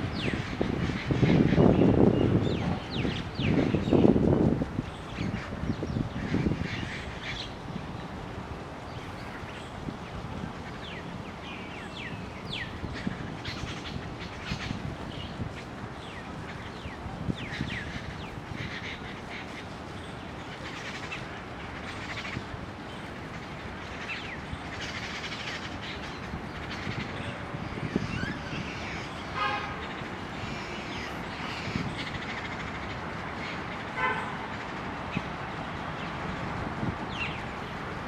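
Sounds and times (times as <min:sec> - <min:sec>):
birds chirping: 0:00.0 - 0:38.0
distant vehicles rumbling: 0:00.0 - 0:38.0.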